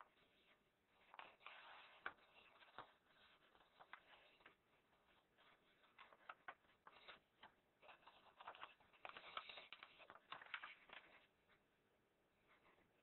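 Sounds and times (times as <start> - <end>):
paper rustling and crackling: 0.0 - 11.6.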